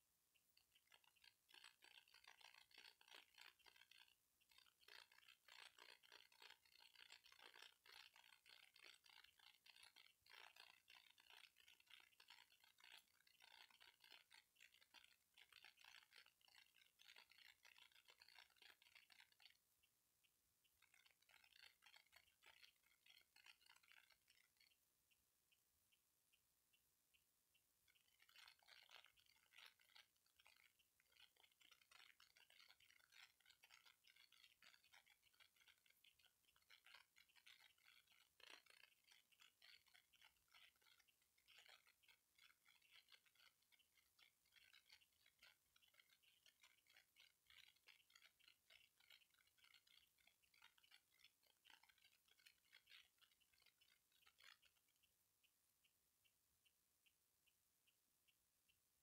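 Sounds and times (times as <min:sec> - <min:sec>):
faint rapid clicking: 0:00.0 - 0:59.0
faint ticks: 0:00.0 - 0:59.0.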